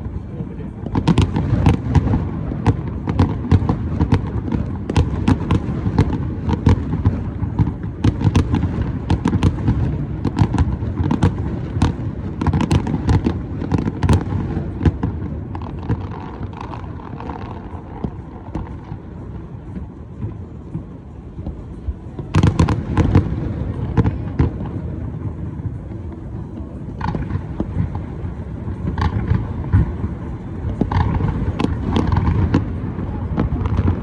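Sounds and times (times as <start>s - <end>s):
firework bangs and crackles: 0.0s - 34.0s.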